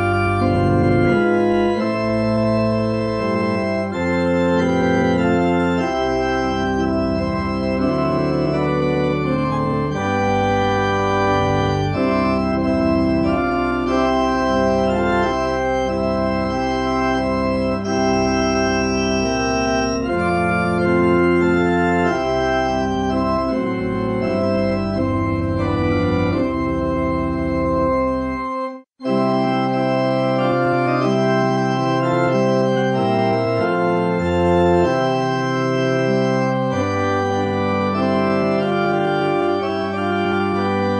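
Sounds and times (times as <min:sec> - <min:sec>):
organ playing hymn chords: 0:00.0 - 0:40.9.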